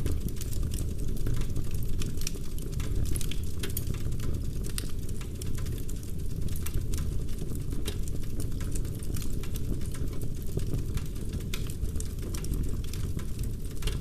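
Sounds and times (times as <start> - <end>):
fire low rumble: 0.0 - 14.0
logs crackling and popping: 0.0 - 14.0.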